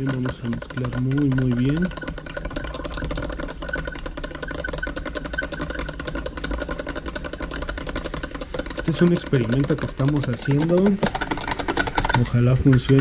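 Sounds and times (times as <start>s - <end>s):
metal tool rattling in glass jar: 0.0s - 13.0s.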